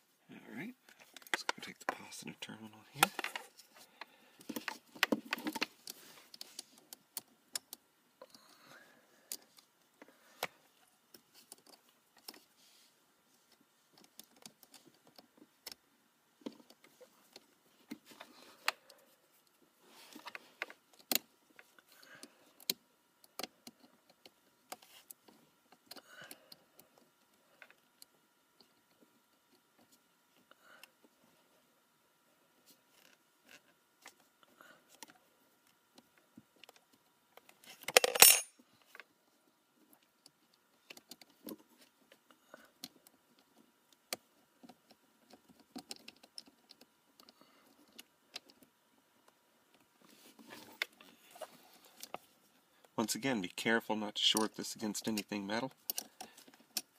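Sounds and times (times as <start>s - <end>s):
hands handling wires and terminals: 0.8s - 8.5s, 9.3s - 31.4s, 32.6s - 53.0s, 54.2s - 56.9s.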